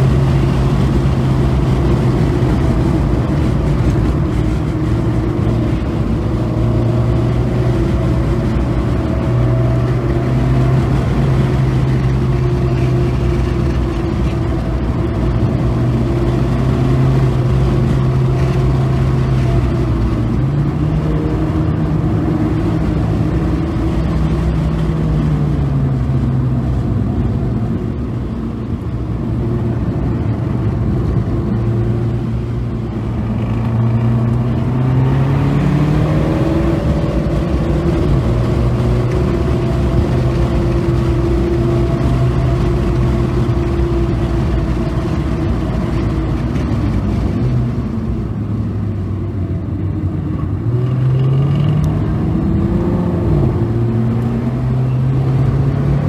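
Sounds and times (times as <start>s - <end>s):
car engine from inside cabin: 0.0s - 56.0s
road noise rushing: 0.0s - 56.0s.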